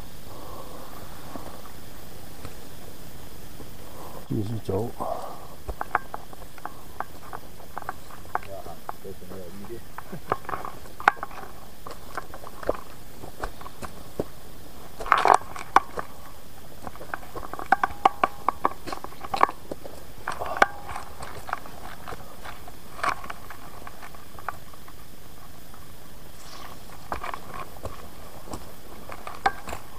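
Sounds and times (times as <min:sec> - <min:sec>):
footsteps crunching twigs and leaves: 0:01.0 - 0:29.9.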